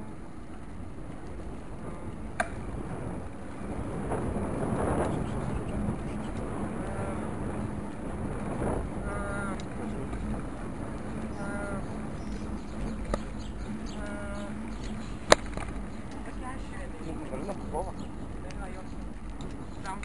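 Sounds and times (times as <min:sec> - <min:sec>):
faint steady hum: 0:00.0 - 0:20.0
low road rumble: 0:00.0 - 0:20.0
wind buffeting microphone: 0:00.0 - 0:20.0.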